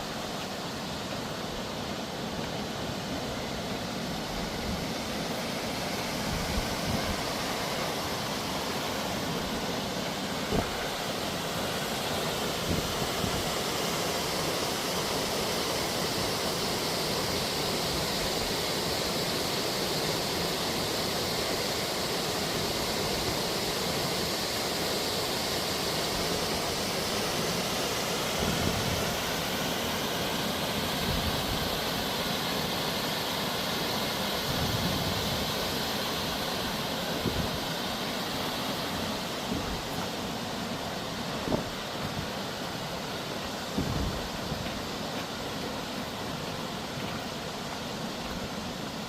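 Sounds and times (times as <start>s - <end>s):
fast-flowing water rushing: 0.0s - 49.0s.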